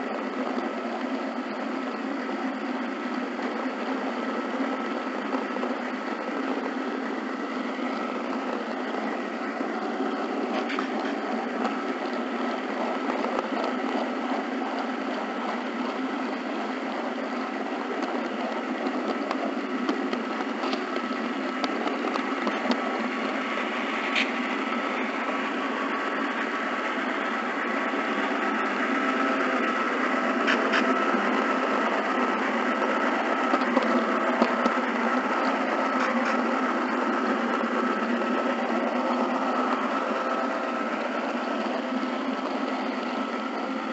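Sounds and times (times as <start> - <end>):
wheels clicking over rail joints: 0.0 - 43.9.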